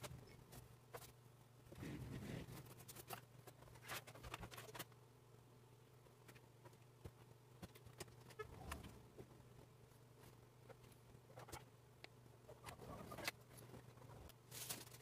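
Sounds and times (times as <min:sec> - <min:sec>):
clicks and rustles of handling wires: 0:00.0 - 0:05.0, 0:06.0 - 0:09.4, 0:10.2 - 0:15.0.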